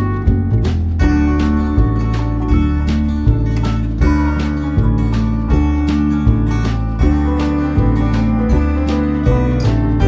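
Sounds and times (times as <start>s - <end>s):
acoustic guitar music: 0.0s - 10.0s
steady bass: 0.0s - 10.0s.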